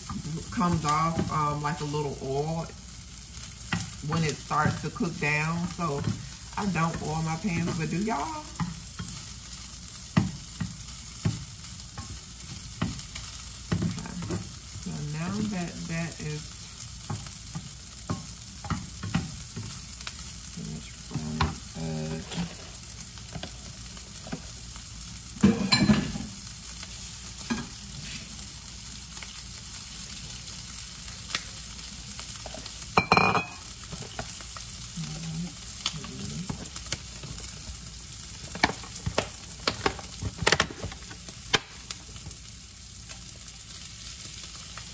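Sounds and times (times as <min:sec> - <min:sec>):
spatula stirring and scraping: 0:00.0 - 0:24.6, 0:26.8 - 0:41.3
sausage sizzling in a skillet: 0:00.0 - 0:44.9.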